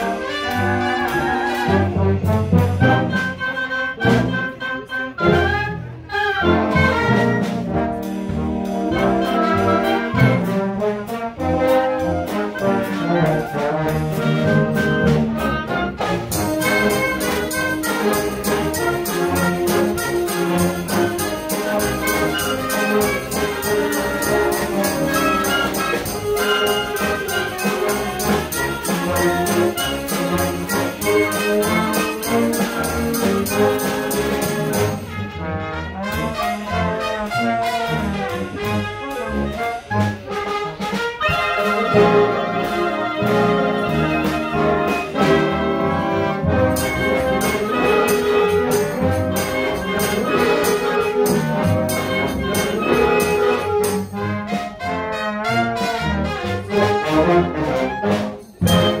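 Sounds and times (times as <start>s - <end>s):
concert band playing: 0.0s - 59.0s.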